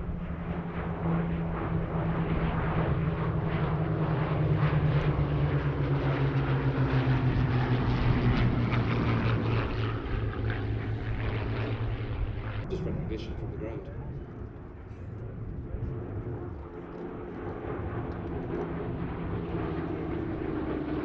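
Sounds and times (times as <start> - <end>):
propeller plane engines flying past: 0.0 - 21.0.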